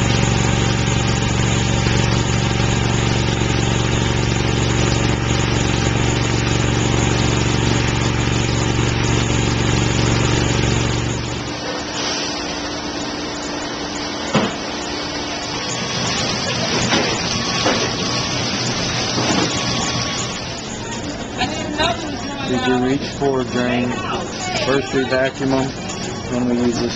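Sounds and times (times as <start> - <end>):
engine running steadily: 0.0 - 26.9.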